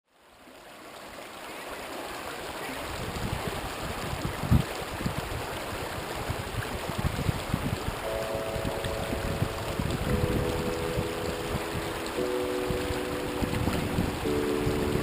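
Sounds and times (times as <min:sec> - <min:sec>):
rushing water: 0:00.1 - 0:15.0.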